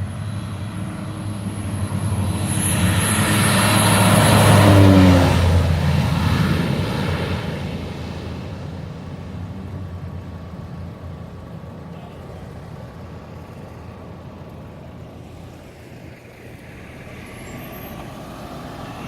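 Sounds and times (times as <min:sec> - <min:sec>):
turboprop engine running: 0:00.0 - 0:17.3.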